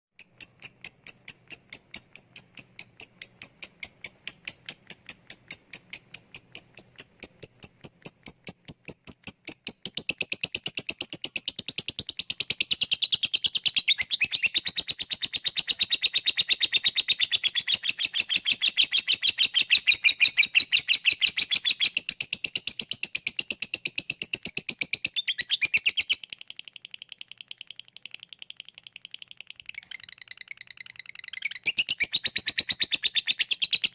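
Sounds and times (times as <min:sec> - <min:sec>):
lovebird chirping and trilling: 0:00.2 - 0:33.9.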